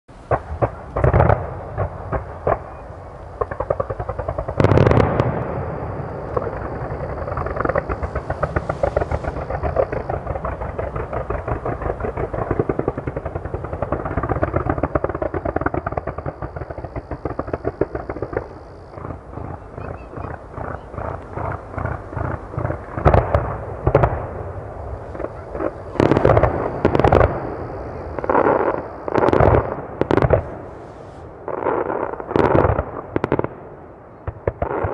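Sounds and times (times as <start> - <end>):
fireworks bursting with loud bangs: 0.1 - 34.9.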